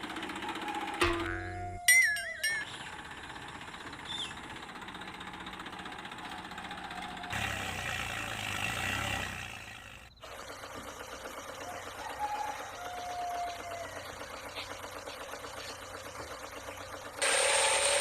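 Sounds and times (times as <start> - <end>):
motor running steadily: 0.0 - 18.0.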